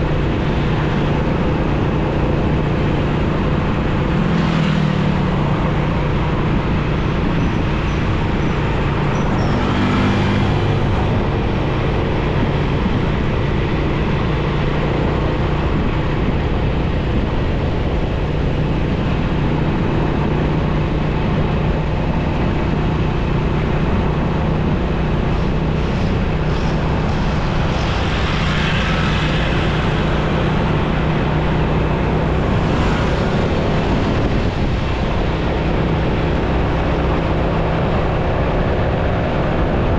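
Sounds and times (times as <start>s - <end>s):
road and traffic noise: 0.0s - 39.9s
vehicles passing: 0.0s - 39.9s.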